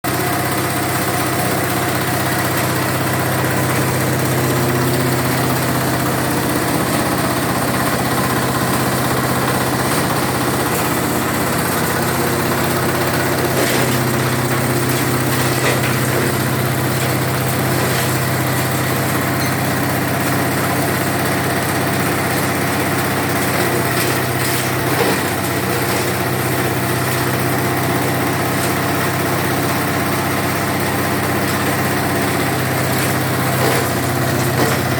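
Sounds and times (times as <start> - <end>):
shredder machine engine droning: 0.0 - 34.9.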